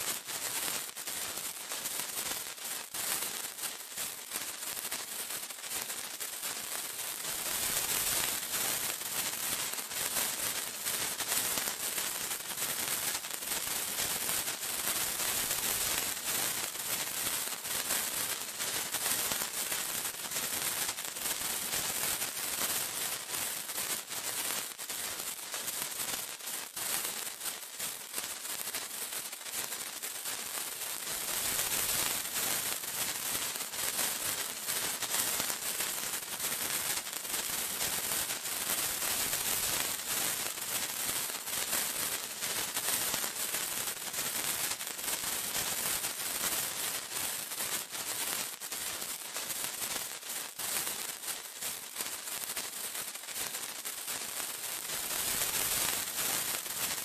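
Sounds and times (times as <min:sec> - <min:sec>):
sparkler hissing crackle: 0:00.0 - 0:57.0.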